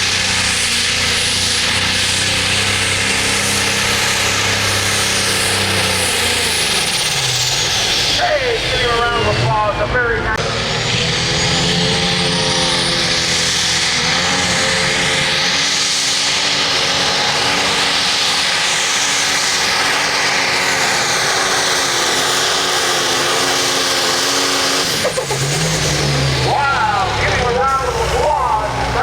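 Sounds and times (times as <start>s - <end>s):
engine running under load: 0.0s - 29.0s.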